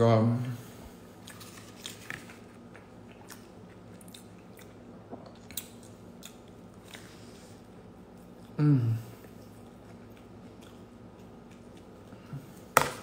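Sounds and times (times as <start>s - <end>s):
steady low hum: 0.0s - 13.0s
man chewing sandwich: 0.9s - 13.0s.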